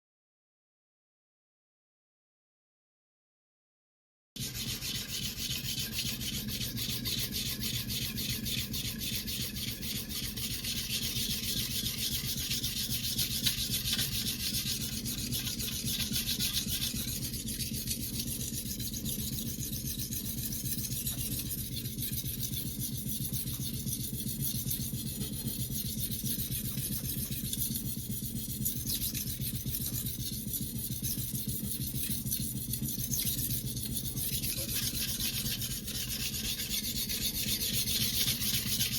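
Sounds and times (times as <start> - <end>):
knife rasping on whetstone: 4.4 - 38.9.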